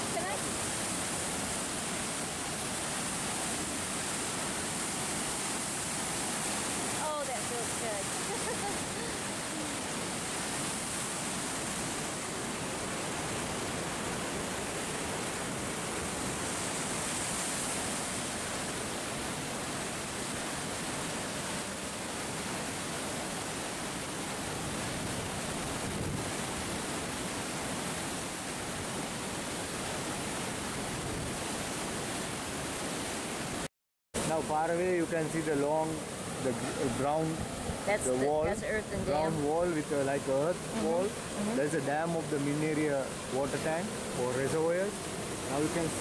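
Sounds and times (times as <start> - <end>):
water rushing down spillway: 0.0 - 46.0.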